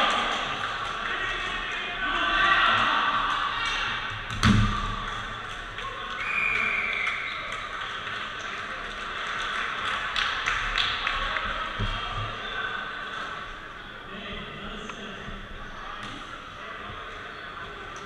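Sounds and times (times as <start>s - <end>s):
hubbub of players: 0.0s - 18.0s.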